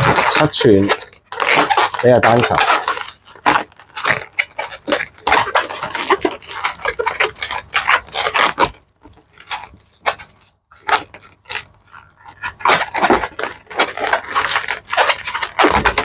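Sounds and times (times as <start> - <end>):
balloons squeaking and rubbing: 0.0 - 16.0.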